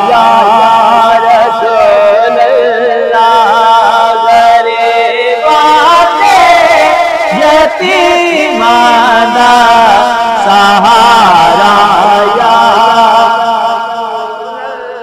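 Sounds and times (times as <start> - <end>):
man singing solo: 0.0 - 15.0.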